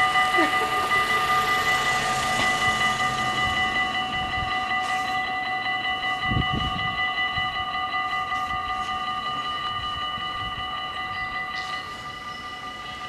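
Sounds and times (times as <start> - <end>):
level crossing bells ringing: 0.0 - 13.0.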